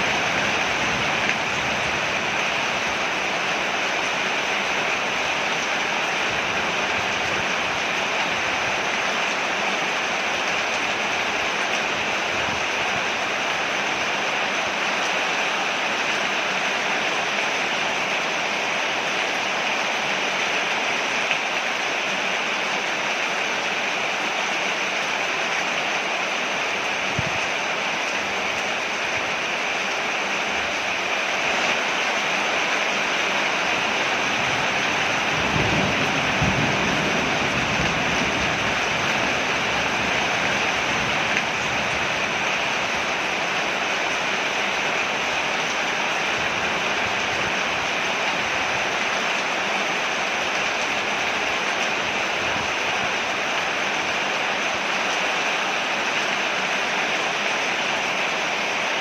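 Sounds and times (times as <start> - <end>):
rain falling on a porch: 0.0 - 59.0.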